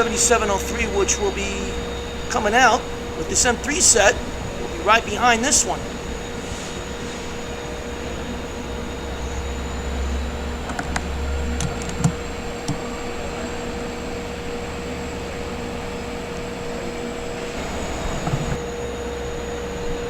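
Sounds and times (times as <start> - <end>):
standing train humming: 0.0 - 20.0.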